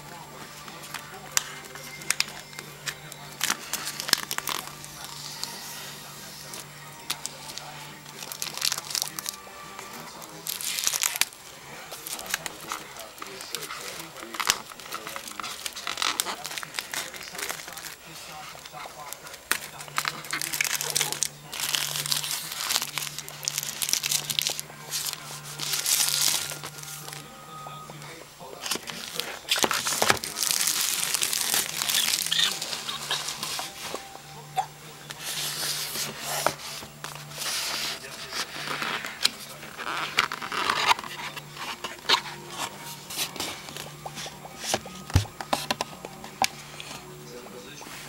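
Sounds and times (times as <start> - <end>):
plastic shrink wrap crinkling: 0.0 - 34.2, 35.0 - 47.1.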